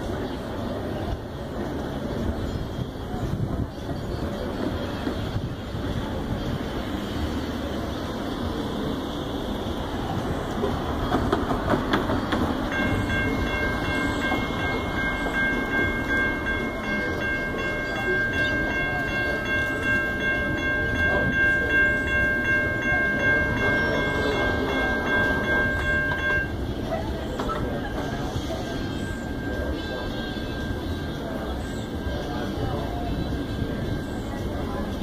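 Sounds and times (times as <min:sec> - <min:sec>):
crossing warning bell dinging: 0:04.4 - 0:35.0.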